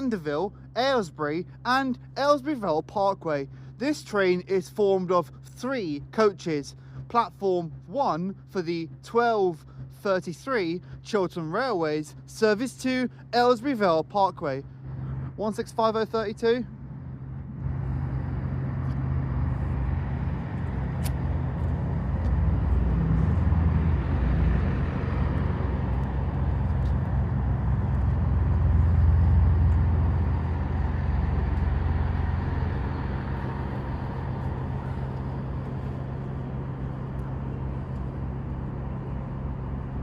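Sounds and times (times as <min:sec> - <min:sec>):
diesel train engines humming: 0:00.0 - 0:40.0.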